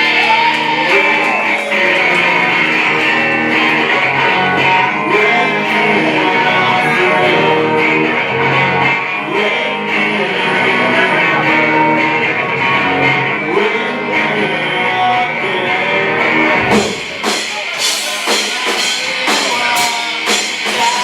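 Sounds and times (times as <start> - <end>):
rock band playing live: 0.0 - 21.0
strummed electric guitars: 0.0 - 21.0.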